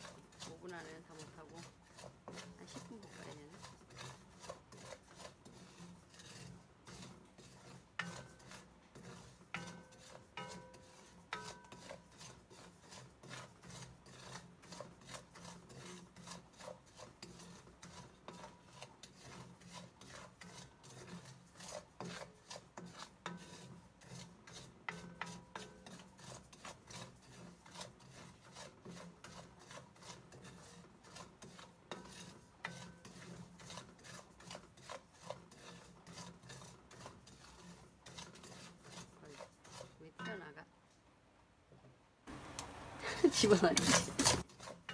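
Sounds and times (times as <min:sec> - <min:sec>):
spoon scraping salt in pan: 0:00.0 - 0:40.6, 0:43.0 - 0:44.9.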